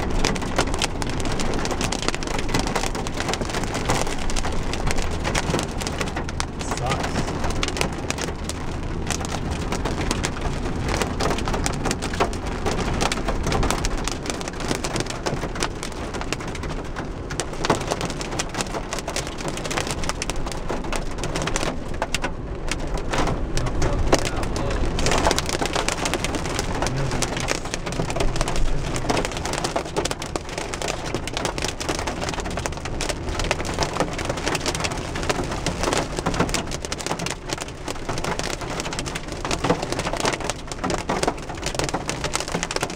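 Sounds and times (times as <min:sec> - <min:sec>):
heavy rain on car roof: 0:00.0 - 0:42.9
tyres rumbling on wet road: 0:00.0 - 0:42.9.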